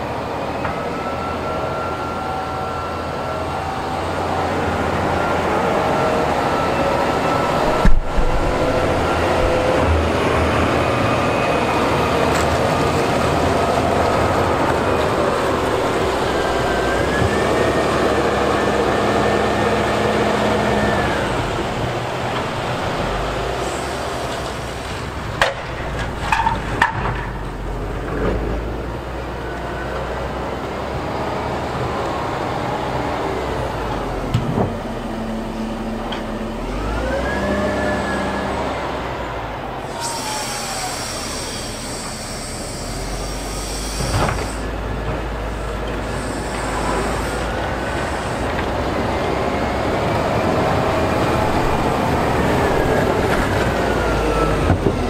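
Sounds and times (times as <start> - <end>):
diesel engine whining under load: 0.0 - 55.0.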